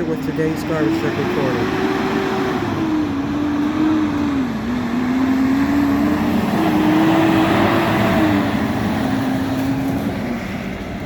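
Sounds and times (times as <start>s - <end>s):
road rumble: 0.0s - 11.0s
vehicle engine running: 0.0s - 11.0s.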